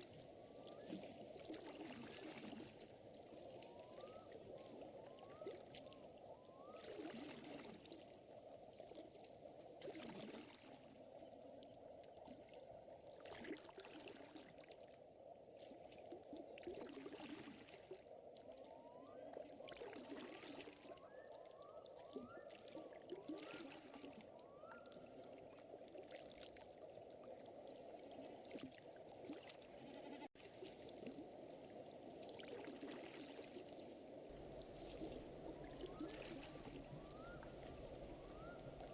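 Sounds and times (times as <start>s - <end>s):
water trickling and lapping: 0.0s - 38.9s.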